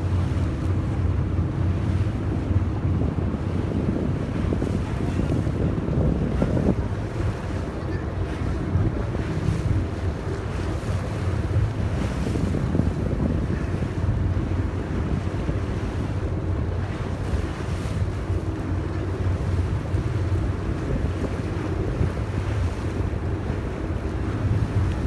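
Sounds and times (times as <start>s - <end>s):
boat engine droning: 0.0s - 25.0s
water washing along hull: 0.0s - 25.0s
wind buffeting microphone: 0.0s - 25.0s.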